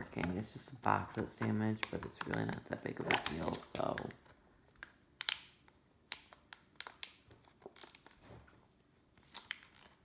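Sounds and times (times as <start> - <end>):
packaging clicks and crinkles: 0.0 - 10.0.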